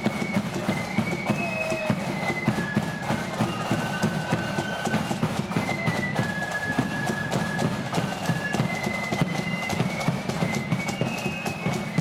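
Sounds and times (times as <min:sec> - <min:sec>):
flutes playing in unison: 0:00.0 - 0:12.0
marching drums: 0:00.0 - 0:12.0.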